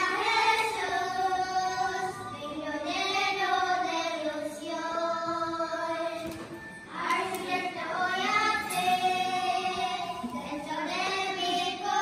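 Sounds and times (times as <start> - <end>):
children singing a hymn: 0.0 - 12.0.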